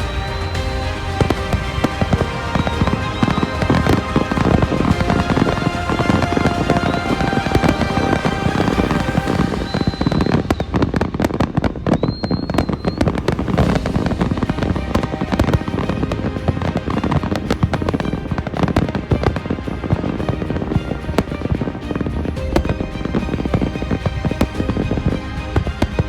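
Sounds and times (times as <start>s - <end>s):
fireworks bangs and crackling: 0.0s - 26.0s
high firework whistle: 0.0s - 26.0s.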